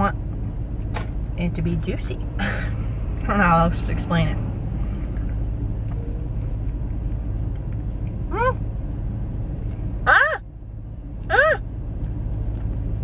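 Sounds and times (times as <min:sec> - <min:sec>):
low car cabin rumble: 0:00.0 - 0:13.0.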